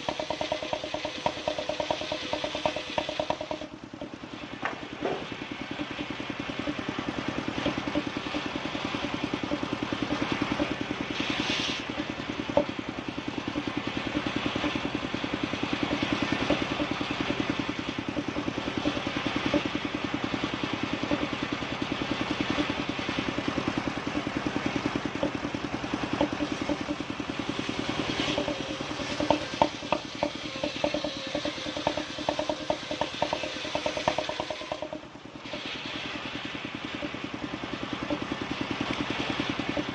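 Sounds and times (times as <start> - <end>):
engine-driven sawing machine: 0.0 - 39.9
sharp knocks and clatter: 0.0 - 39.9.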